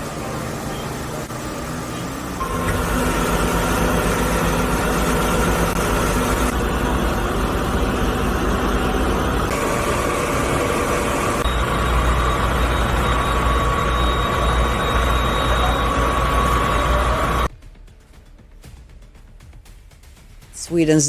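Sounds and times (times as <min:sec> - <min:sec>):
vehicle engine running: 0:00.0 - 0:17.5.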